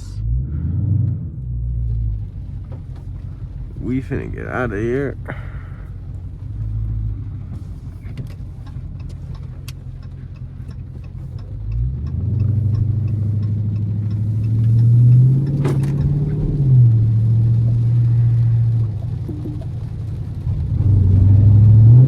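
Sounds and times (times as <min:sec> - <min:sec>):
car engine heard from inside: 0:00.0 - 0:22.0.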